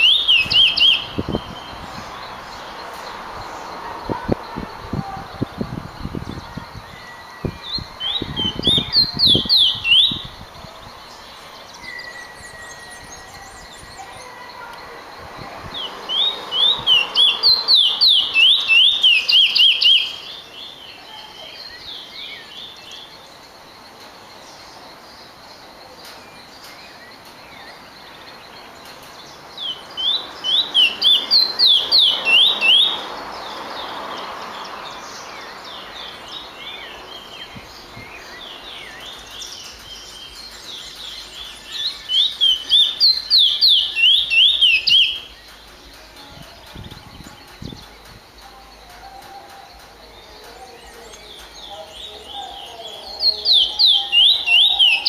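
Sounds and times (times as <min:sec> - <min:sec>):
finch singing whistled notes: 0:00.0 - 0:02.7, 0:05.0 - 0:10.5, 0:11.1 - 0:14.6, 0:15.7 - 0:23.2, 0:29.2 - 0:55.0.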